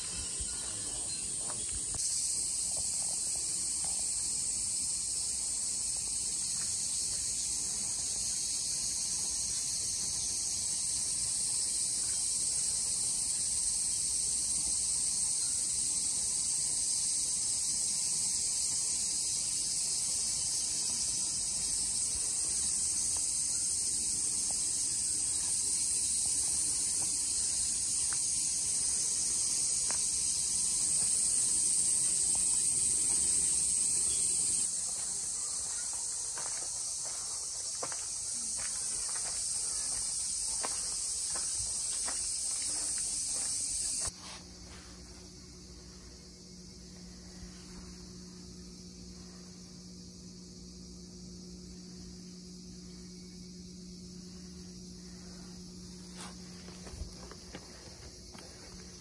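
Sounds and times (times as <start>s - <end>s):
cicadas chorus: 0.0s - 59.0s.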